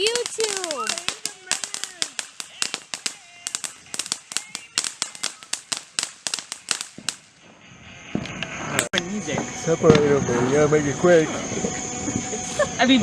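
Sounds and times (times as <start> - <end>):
fireworks popping: 0.0 - 10.6.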